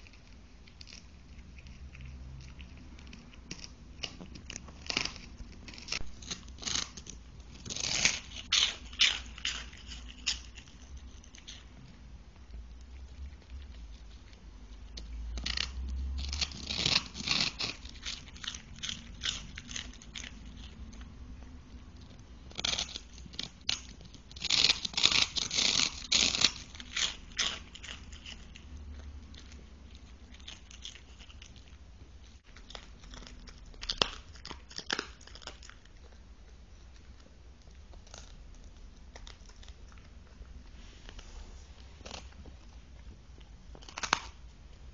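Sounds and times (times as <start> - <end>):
dog crunching a chew: 0.0 - 44.9.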